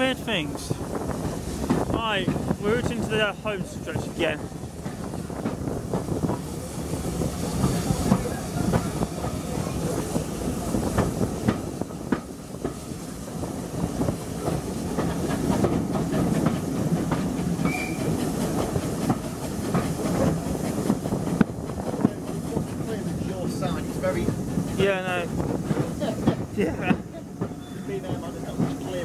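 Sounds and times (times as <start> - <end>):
train coaches rumbling: 0.0 - 29.0.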